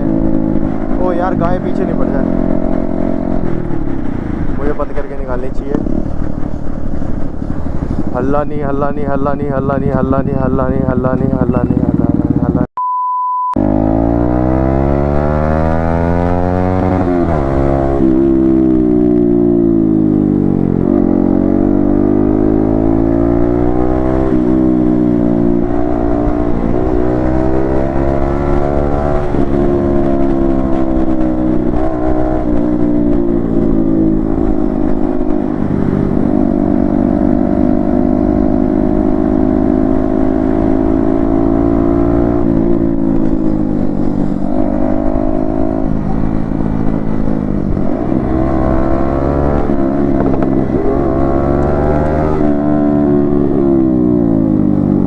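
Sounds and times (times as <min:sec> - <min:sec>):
motorcycle engine accelerating: 0:00.0 - 0:12.7, 0:13.6 - 0:55.0.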